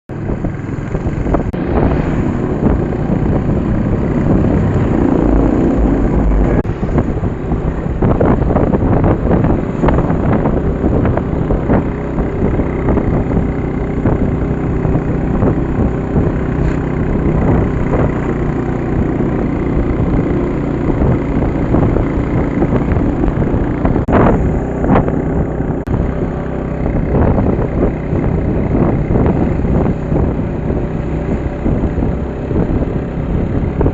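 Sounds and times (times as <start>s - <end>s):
vehicle engine running: 0.1s - 33.9s
wind rumbling on microphone: 0.1s - 33.9s.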